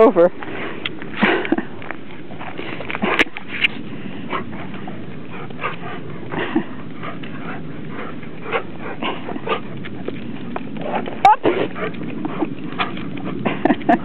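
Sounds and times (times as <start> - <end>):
dogs vocalizing while playing: 1.1 - 14.0.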